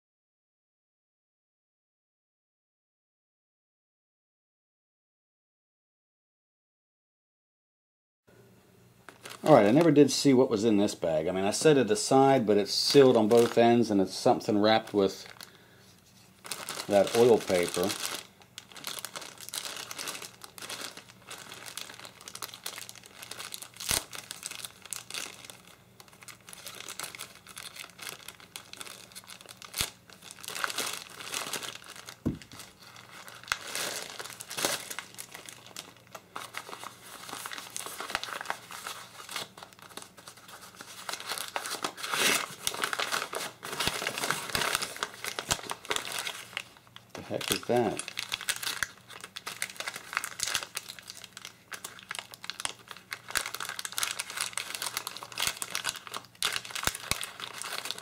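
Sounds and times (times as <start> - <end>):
plastic and paper crinkling: 9.1 - 58.0.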